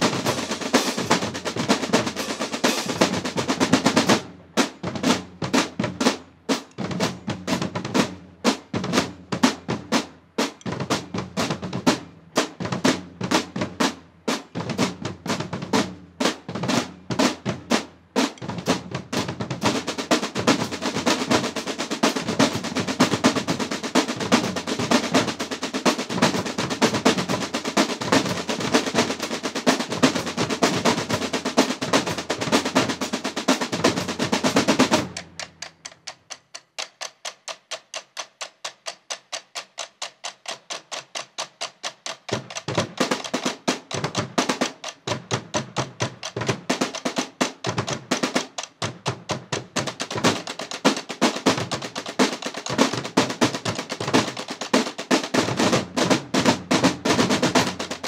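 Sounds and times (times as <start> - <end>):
snare drums playing cadence: 0.0 - 58.0.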